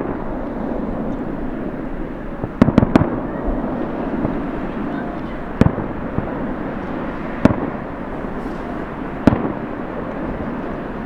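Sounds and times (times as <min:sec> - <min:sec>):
fireworks bangs: 0:00.0 - 0:11.0
steady background noise: 0:00.0 - 0:11.0.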